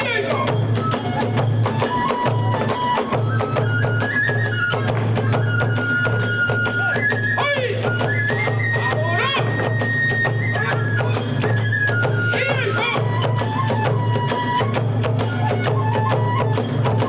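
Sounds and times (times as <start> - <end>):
bamboo flute long notes: 0.0 - 17.0
fast drum beats: 0.0 - 17.0
hand cymbals: 0.0 - 17.0.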